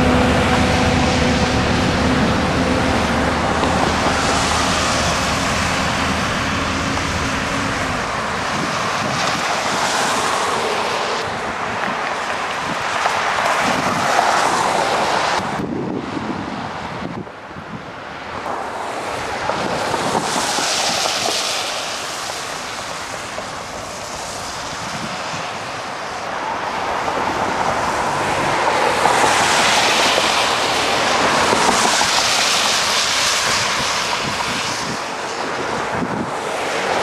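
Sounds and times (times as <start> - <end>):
train cars rolling on rails: 0.0 - 15.6, 18.3 - 37.0
wind on microphone: 0.0 - 37.0.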